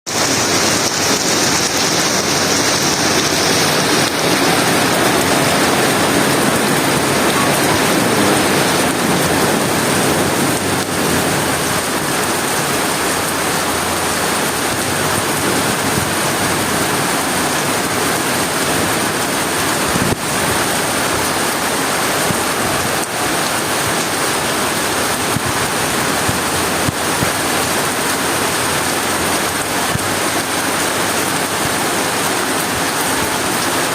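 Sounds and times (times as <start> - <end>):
rain falling: 0.1 - 33.9
strong wind: 0.1 - 33.9.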